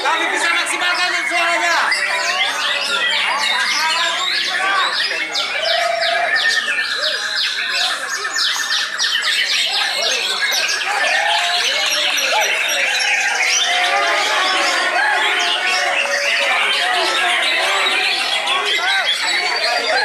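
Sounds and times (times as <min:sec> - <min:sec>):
caged songbirds singing: 0:00.0 - 0:20.0.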